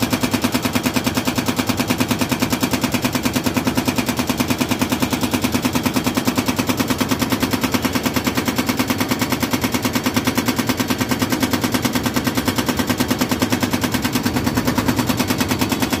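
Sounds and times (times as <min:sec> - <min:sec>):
hydraulic breaker hammering concrete: 0:00.0 - 0:16.0.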